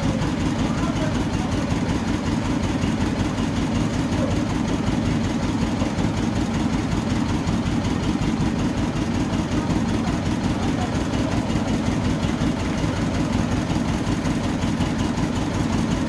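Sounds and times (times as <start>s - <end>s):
petrol engine idling: 0.0s - 16.0s.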